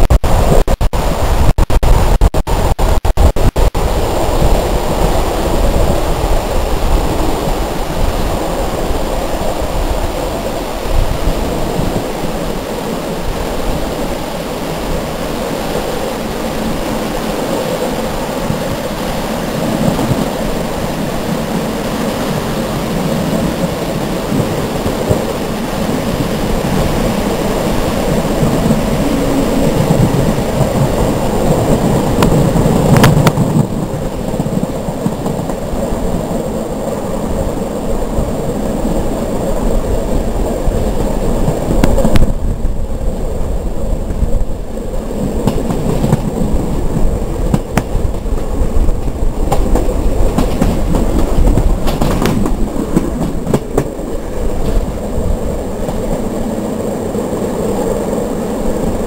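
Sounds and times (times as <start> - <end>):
train rumbling on track: 0.0 - 59.0
wind buffeting microphone: 0.0 - 59.0.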